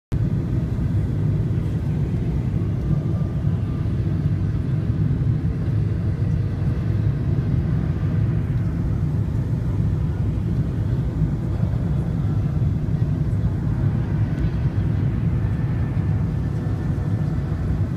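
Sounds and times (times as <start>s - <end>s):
airplane cabin rumble: 0.1s - 17.9s.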